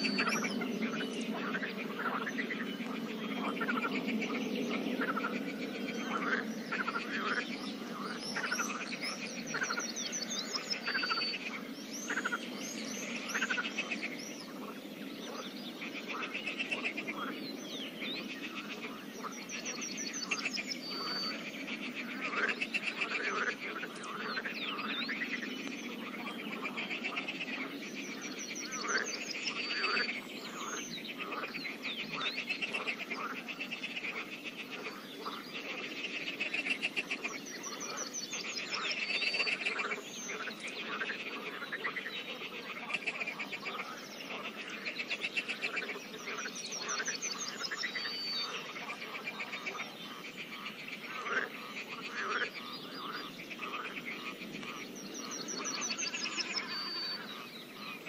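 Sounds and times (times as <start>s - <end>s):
frogs croaking: 0.0s - 58.0s.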